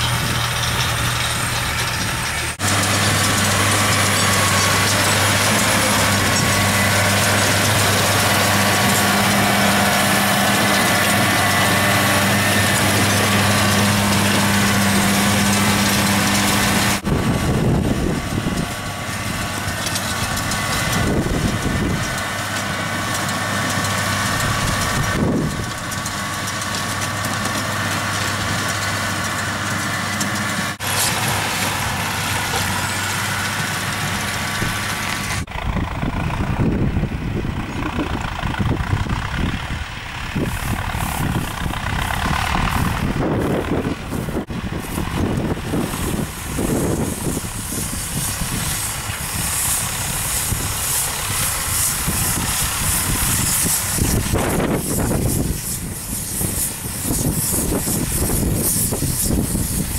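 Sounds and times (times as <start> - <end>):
low rumbles: 0.0 - 59.9
round baler compressing grass: 0.0 - 59.9
tractor diesel engine under load: 0.0 - 59.9.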